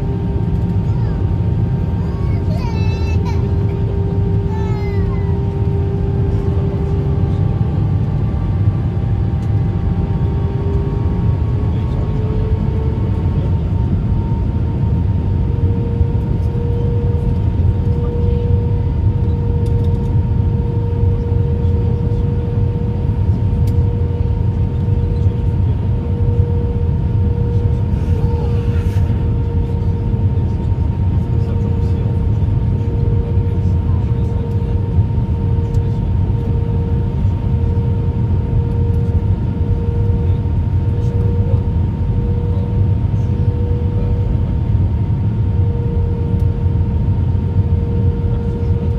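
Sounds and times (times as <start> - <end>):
airplane cabin rumble: 0.0 - 48.9
constant hum: 0.0 - 48.9.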